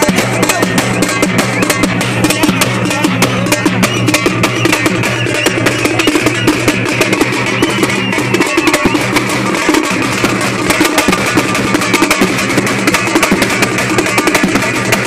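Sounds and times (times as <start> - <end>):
drum troupe drumming fast: 0.0 - 15.0.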